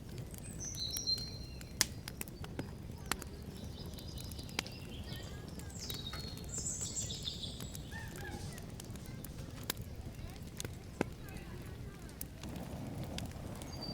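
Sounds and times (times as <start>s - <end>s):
small birds chirping: 0.2s - 13.9s.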